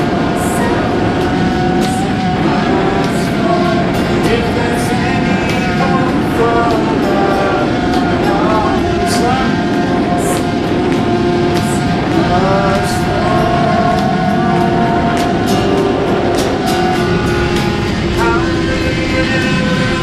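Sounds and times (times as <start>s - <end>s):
melodic music with beat: 0.0s - 19.7s.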